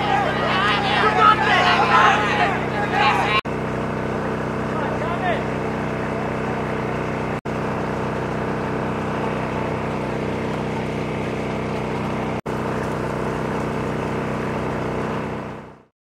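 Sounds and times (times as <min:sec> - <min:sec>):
steady motor hum: 0:00.0 - 0:15.9.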